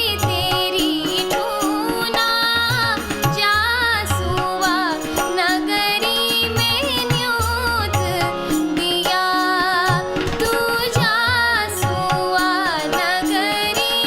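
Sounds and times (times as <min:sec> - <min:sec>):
hand drum: 0:00.0 - 0:14.0
woman singing folk song: 0:00.0 - 0:14.0.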